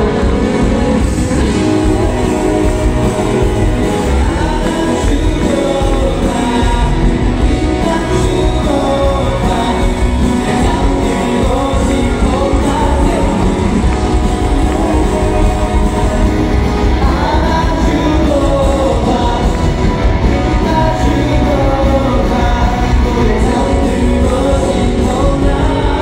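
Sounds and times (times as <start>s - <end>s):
live band music: 0.0s - 26.0s
man singing into a microphone: 0.0s - 26.0s.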